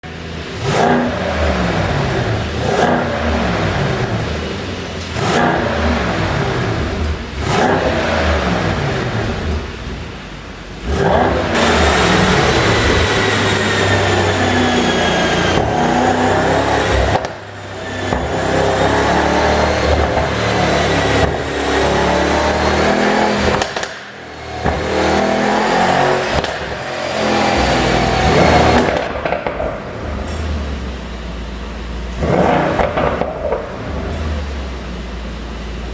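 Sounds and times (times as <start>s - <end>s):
car engine revving hard: 0.0s - 10.2s, 10.8s - 31.1s, 32.1s - 34.9s
exhaust popping and crackling: 0.6s - 35.9s.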